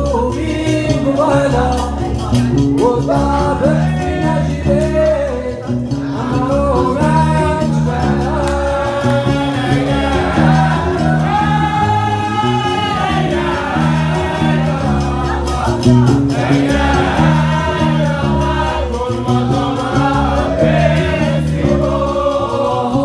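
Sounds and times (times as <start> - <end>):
men singing: 0.0 - 23.0
plucked bass lute: 0.0 - 23.0.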